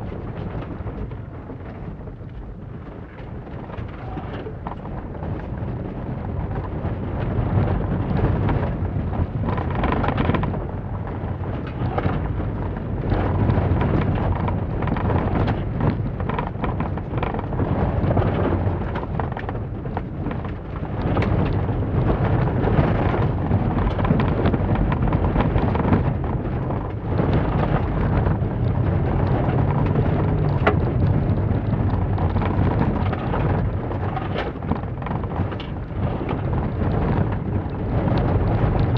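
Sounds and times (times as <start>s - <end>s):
stones rattling under car: 7.5s - 38.9s.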